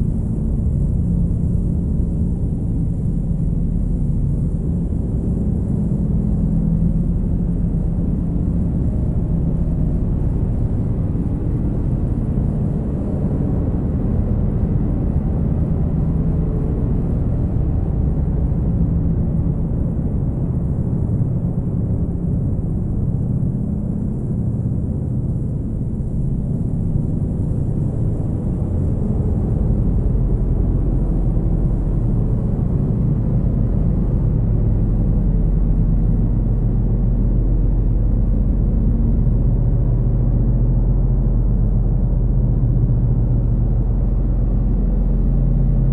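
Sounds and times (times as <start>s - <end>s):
dark ambient drone music: 0.0s - 45.9s
deep bass: 0.0s - 45.9s.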